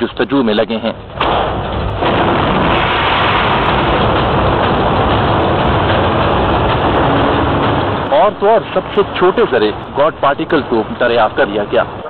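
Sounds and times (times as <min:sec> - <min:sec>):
loud rushing roar: 0:01.2 - 0:12.0.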